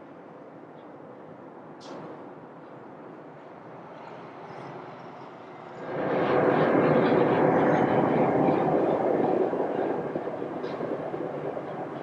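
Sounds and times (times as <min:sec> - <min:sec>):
jet engine rumble with whine: 0:00.0 - 0:12.0.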